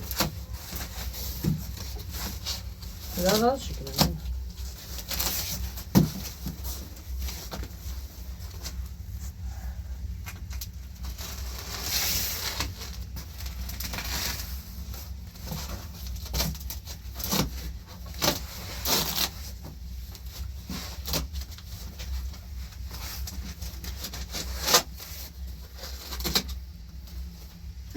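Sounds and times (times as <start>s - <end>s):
rustling or scraping: 0.0s - 27.9s.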